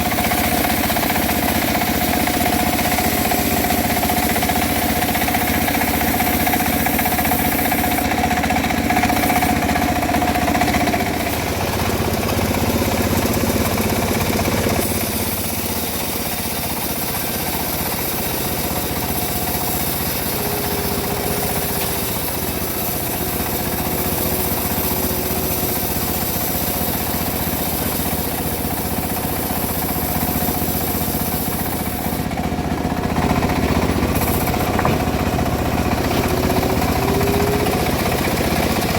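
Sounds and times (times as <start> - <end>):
bandsaw mill sawing logs: 0.0 - 38.9.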